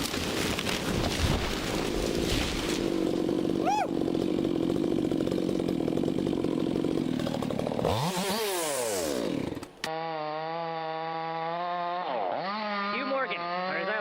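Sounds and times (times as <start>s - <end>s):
chainsaw engine revving: 1.6s - 14.0s.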